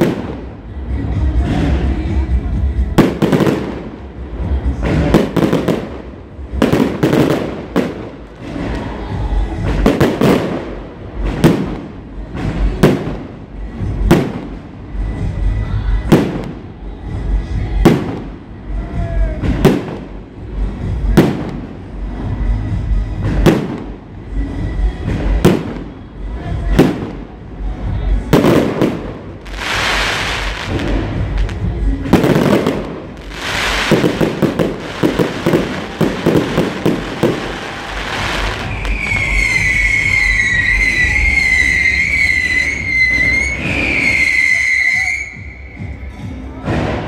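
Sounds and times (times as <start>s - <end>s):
continuous low rumble: 0.0s - 40.1s.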